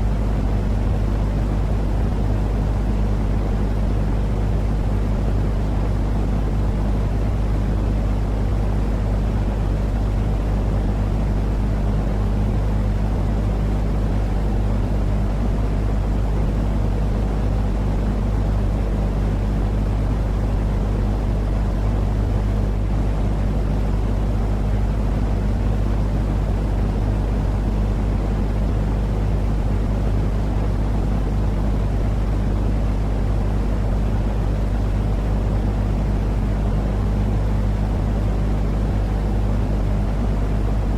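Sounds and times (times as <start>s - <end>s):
constant low hum: 0.0s - 40.9s.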